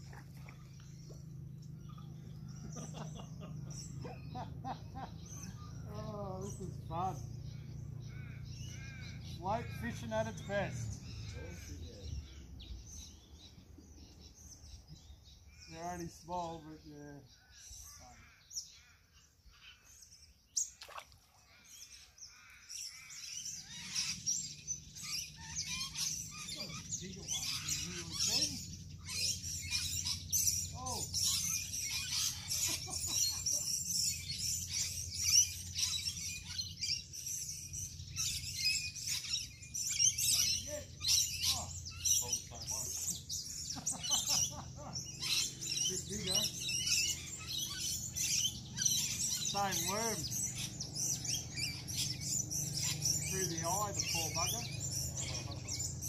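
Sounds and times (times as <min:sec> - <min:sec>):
steady low hum: 0:00.0 - 0:20.8, 0:21.4 - 0:56.0
birds chirping: 0:00.0 - 0:56.0.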